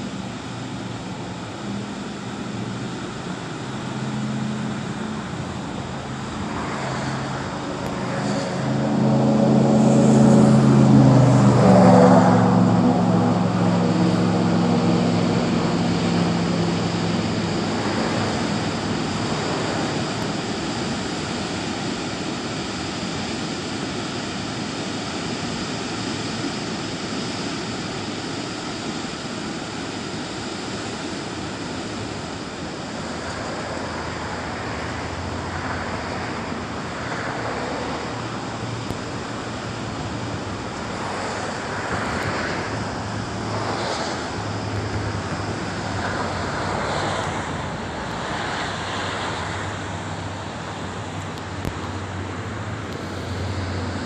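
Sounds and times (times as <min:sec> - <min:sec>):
ocean surf breaking over rocks: 0:00.0 - 0:54.0
vehicle traffic noise: 0:00.0 - 0:54.0.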